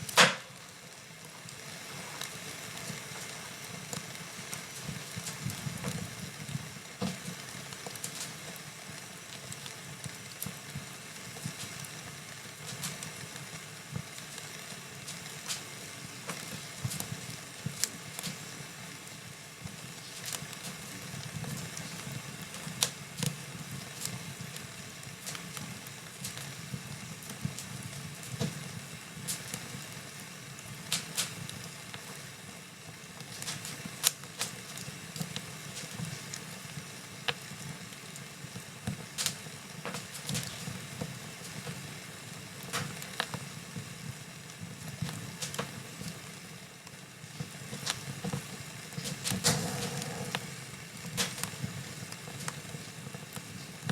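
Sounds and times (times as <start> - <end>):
fireplace fire crackling: 0.0 - 53.9.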